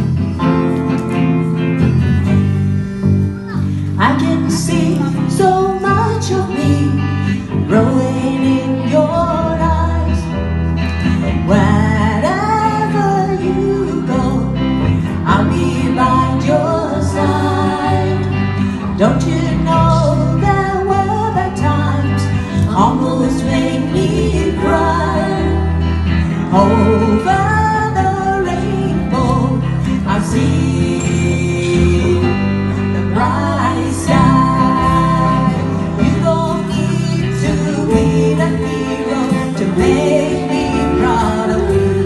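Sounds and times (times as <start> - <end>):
live band playing pop ballad: 0.0 - 42.0.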